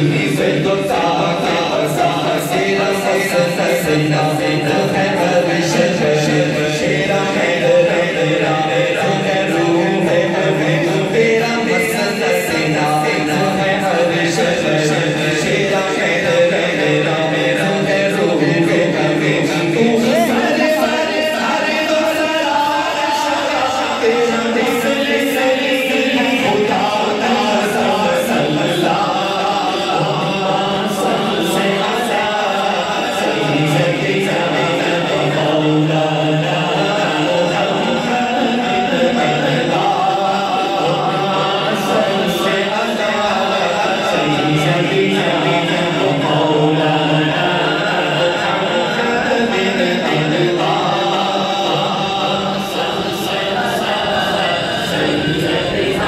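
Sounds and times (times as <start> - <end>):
man chanting into microphone: 0.0 - 56.0.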